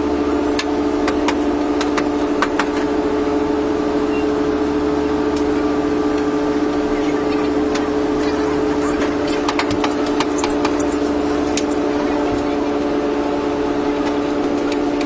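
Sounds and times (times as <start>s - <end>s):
machine hum with tones: 0.0s - 15.0s.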